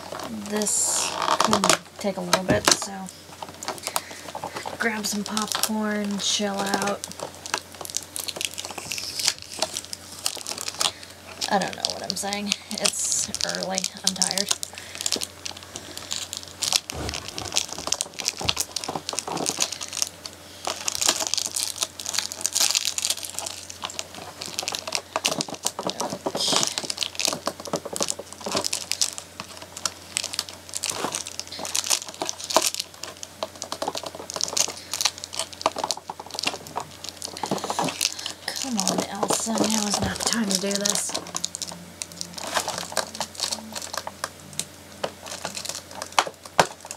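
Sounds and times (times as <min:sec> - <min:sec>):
packaging crinkling and rustling: 0:00.0 - 0:46.9
small clicks and rattles: 0:00.1 - 0:46.9.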